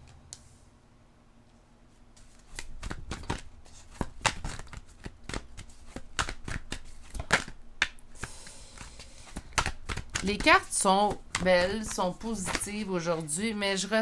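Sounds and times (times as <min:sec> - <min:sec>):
hands tapping and brushing cards: 0:02.1 - 0:13.4.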